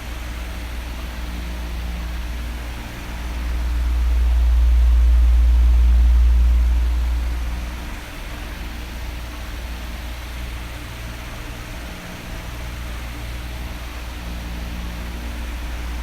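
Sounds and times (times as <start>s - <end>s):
electric fan running: 0.0s - 16.0s
fan airflow rumble on microphone: 0.0s - 16.0s.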